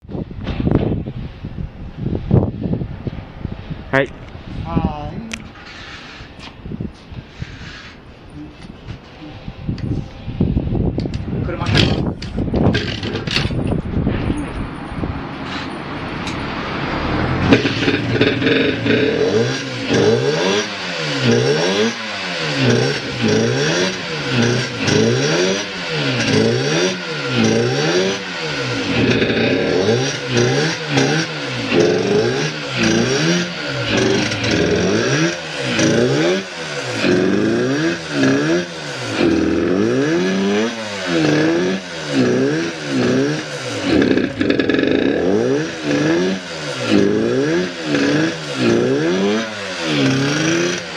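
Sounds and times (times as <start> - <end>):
motorcycle engine revving: 5.4 - 50.9.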